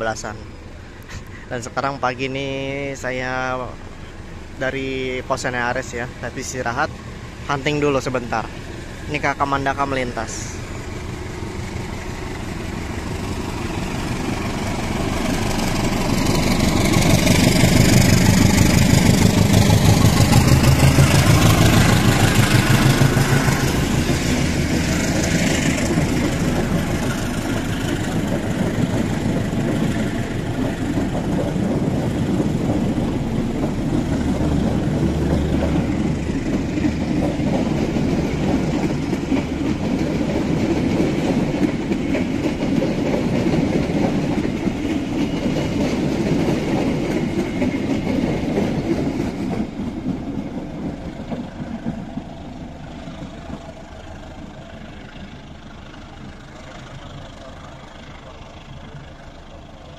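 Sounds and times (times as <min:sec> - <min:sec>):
diesel locomotive passing: 0:00.0 - 0:59.9
train coaches rolling on rails: 0:00.0 - 0:59.9.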